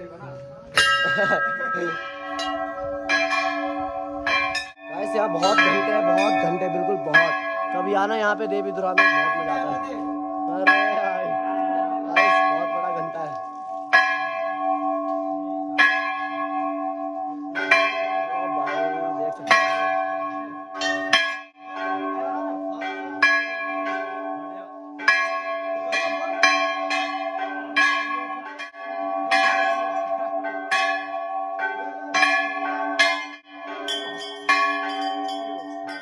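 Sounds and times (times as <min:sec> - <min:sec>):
large bells clanging: 0:00.0 - 0:36.0.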